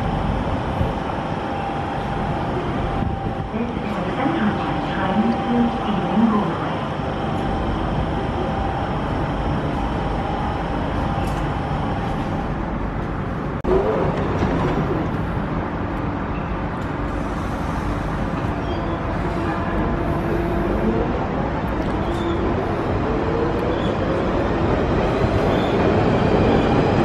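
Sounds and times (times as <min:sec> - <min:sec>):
underground train rumble: 0:00.0 - 0:27.0.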